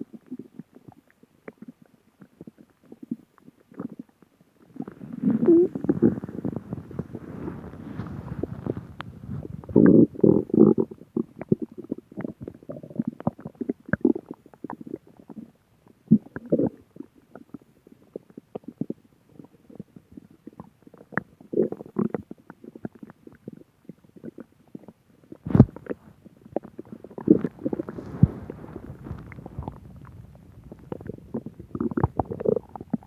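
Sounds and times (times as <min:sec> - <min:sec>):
stomach growling: 0:00.1 - 0:33.0.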